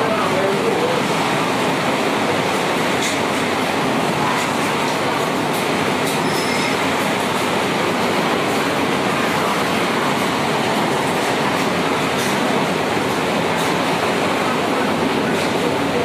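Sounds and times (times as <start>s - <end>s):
heavy rain in strong wind: 0.0s - 16.0s.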